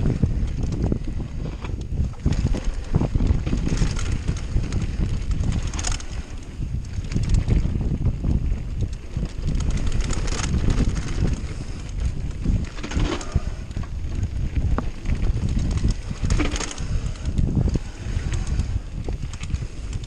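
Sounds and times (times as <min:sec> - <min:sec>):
bike rattling and knocking: 0:00.0 - 0:20.0
tyres rumbling on dirt: 0:00.0 - 0:20.0
wind buffeting microphone: 0:00.0 - 0:20.0.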